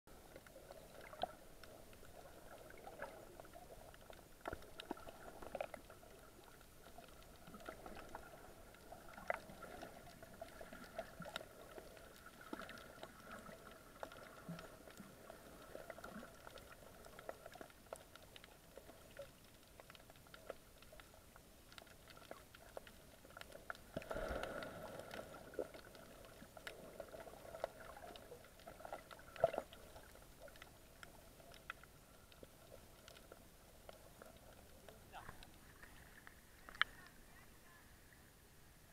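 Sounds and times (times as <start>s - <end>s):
small clicks and crackles: 0.1s - 37.8s
underwater low hum: 0.1s - 38.9s.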